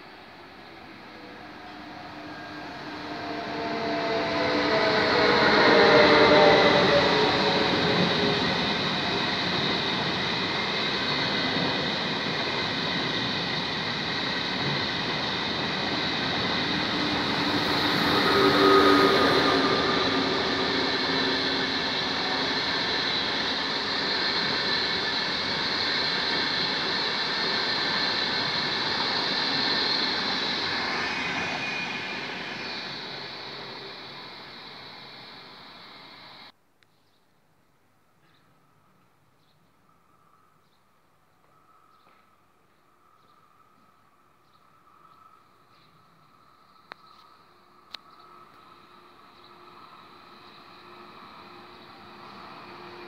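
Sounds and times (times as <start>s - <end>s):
train wheels rushing on rails: 0.0s - 36.5s, 46.4s - 53.0s.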